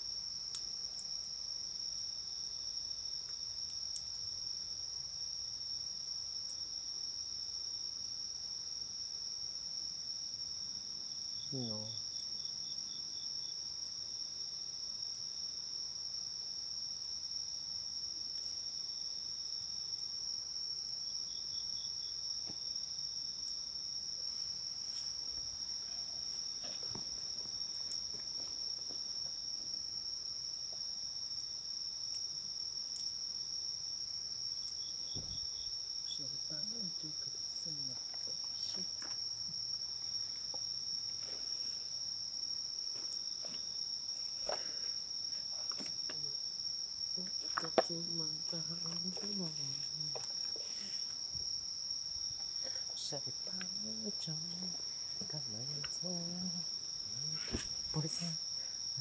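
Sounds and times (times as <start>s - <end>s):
insect trill: 0.0s - 59.0s
night insects droning: 0.0s - 59.0s.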